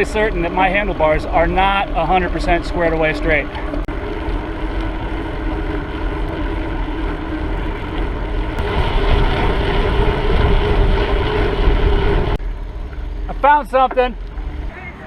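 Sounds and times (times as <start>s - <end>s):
wind rushing over microphone: 0.0s - 13.4s
steady droning tone: 0.0s - 15.0s.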